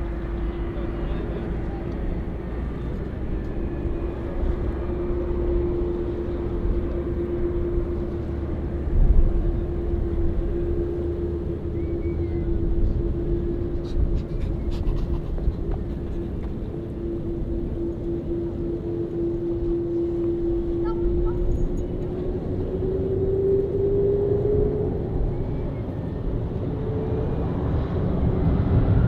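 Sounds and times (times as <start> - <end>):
engine hum: 0.0 - 29.0
low rumble: 0.0 - 29.0.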